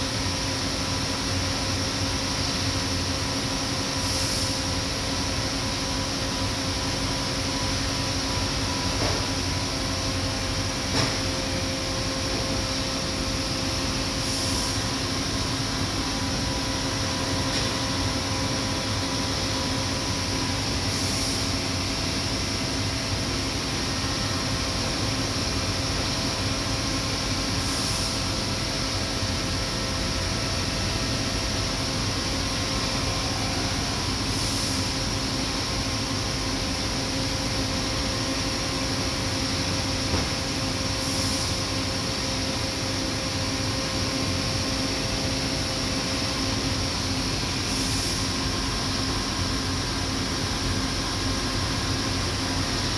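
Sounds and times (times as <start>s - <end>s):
machine hum with constant tones: 0.0s - 52.9s.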